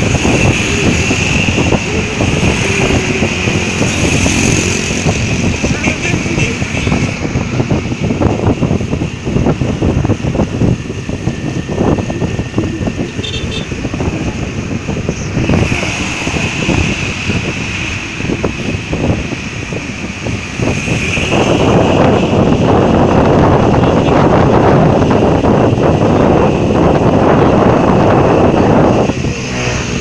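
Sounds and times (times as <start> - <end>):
motorcycle engine: 0.0 - 30.0
road noise: 0.0 - 30.0
wind buffeting microphone: 0.0 - 30.0.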